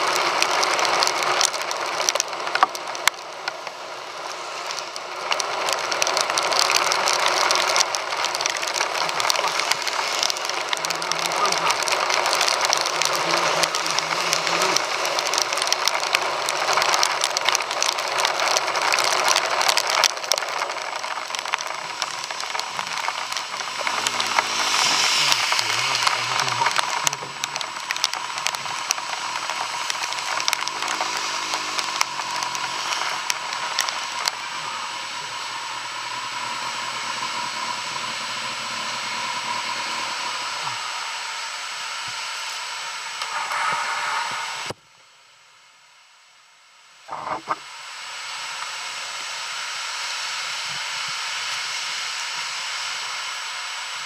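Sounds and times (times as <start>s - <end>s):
wind and rain on microphone: 0.0s - 54.0s.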